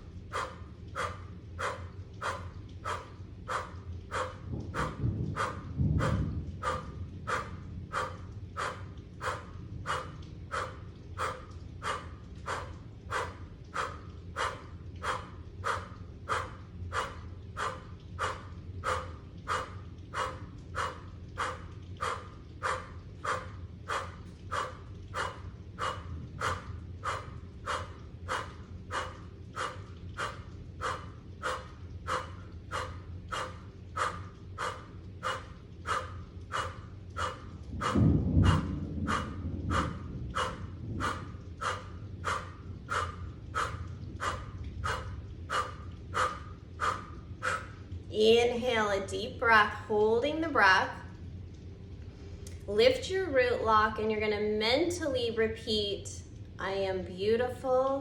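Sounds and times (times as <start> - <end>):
rapid forceful breathing: 0.0 - 48.1
low steady hum: 0.0 - 58.0.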